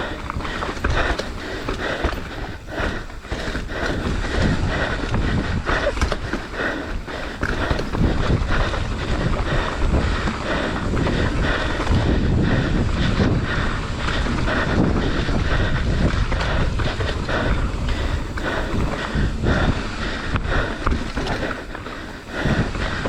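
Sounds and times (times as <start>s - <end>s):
bike knocking and rattling: 0.0s - 23.0s
bike tyre noise: 0.0s - 23.0s
wind rushing over microphone: 0.0s - 23.0s.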